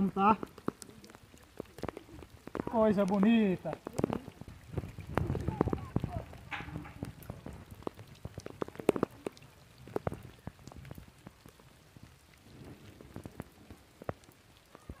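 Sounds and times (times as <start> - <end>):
raindrops splashing: 0.0 - 15.0.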